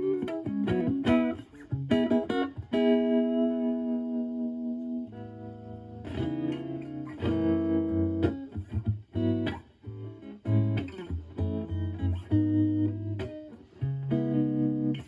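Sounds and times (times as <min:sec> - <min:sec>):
electric guitar with tremolo: 0:00.0 - 0:15.0.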